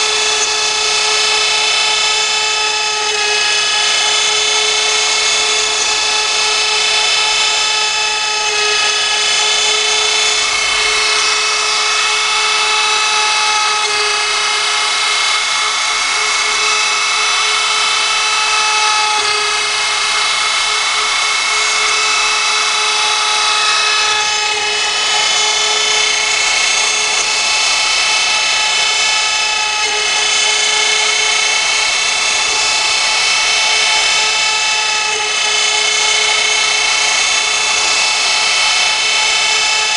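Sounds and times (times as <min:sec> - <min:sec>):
cutting hiss: 0:00.0 - 0:39.9
router spindle whine: 0:00.0 - 0:39.9.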